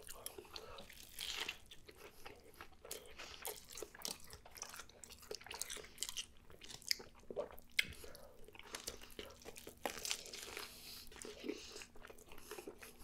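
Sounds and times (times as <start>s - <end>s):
person chewing and biting burger: 0.0s - 13.0s.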